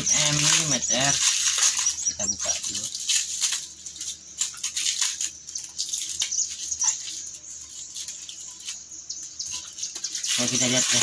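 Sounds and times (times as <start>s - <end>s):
plastic wrapping crinkling: 0.0s - 8.9s.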